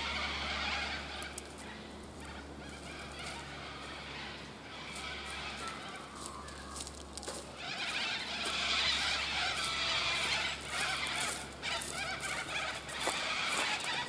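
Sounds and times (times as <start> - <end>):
chorus of birds calling: 0.0 - 14.0
footsteps crunching on dry leaves: 0.1 - 14.0.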